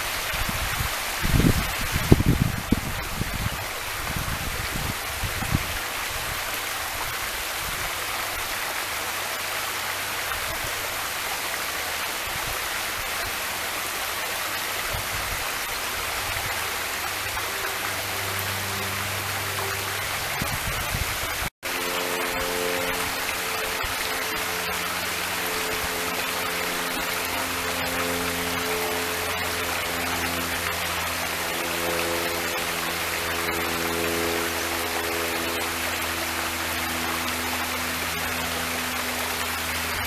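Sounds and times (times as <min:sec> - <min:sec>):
waterfall rushing and splashing: 0:00.0 - 0:40.0.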